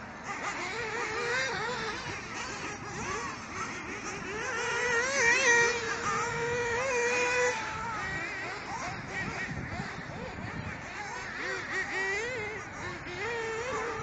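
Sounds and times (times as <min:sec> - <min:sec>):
rc buggy motors whining: 0:00.0 - 0:14.0.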